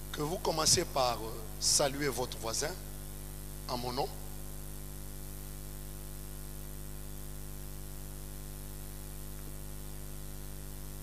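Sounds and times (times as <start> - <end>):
constant hiss: 0.0 - 11.0
electrical mains hum: 0.0 - 11.0.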